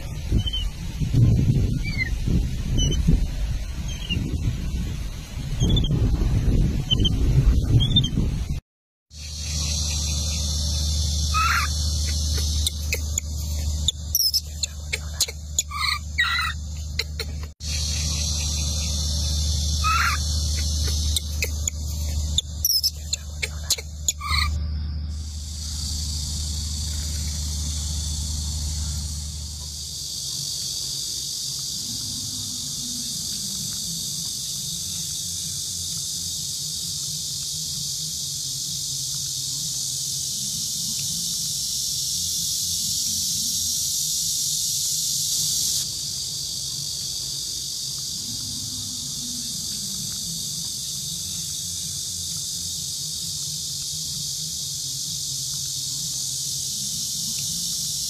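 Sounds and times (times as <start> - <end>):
insect chorus buzzing: 0.0 - 58.0
low hum: 9.2 - 44.4, 45.4 - 58.0.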